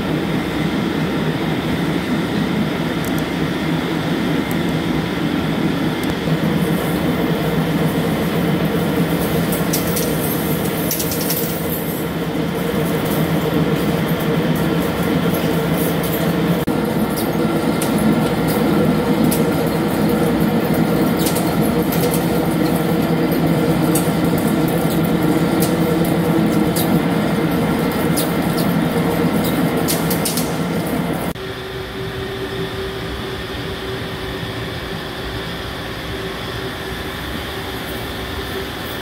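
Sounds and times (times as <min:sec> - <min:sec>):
lathe machine hum and cutting: 0:00.0 - 0:39.0.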